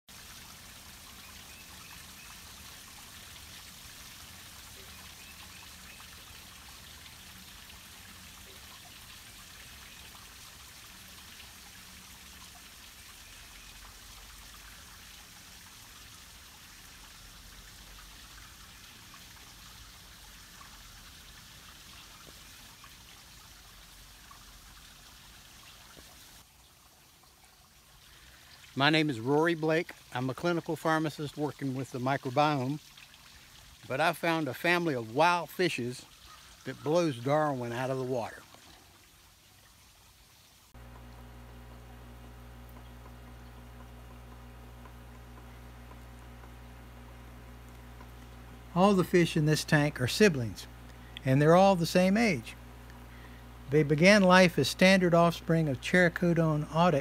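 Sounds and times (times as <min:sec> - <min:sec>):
stream trickling: 0:00.1 - 0:57.0.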